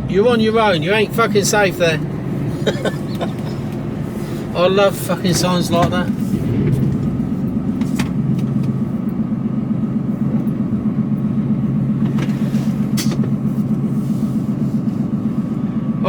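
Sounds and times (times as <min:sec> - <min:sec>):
diesel engine drone: 0:00.0 - 0:16.0
road noise: 0:00.0 - 0:16.0.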